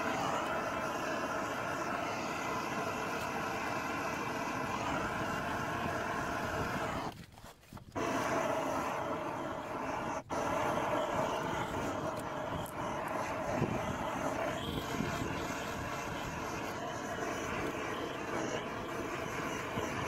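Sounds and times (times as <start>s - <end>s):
gas torch hissing: 0.0s - 20.0s.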